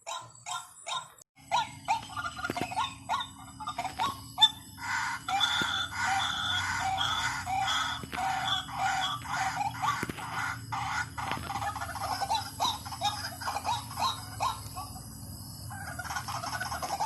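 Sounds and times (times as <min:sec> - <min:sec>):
waterhen calls: 0:00.1 - 0:15.0, 0:15.7 - 0:17.0
faint steady hum: 0:00.1 - 0:17.0.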